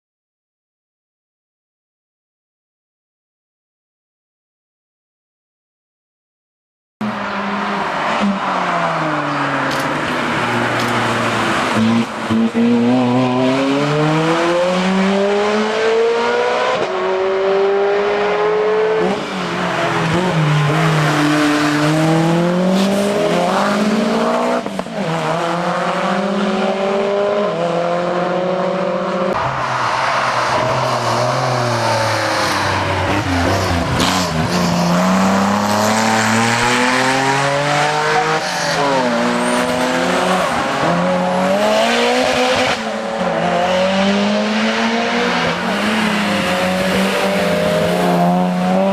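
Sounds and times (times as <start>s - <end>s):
race car engine revving: 7.0s - 29.5s, 30.5s - 48.9s.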